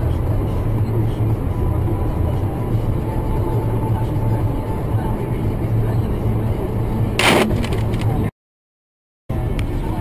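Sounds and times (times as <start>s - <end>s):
vehicle engine and road rumble: 0.0s - 8.3s, 9.3s - 10.0s.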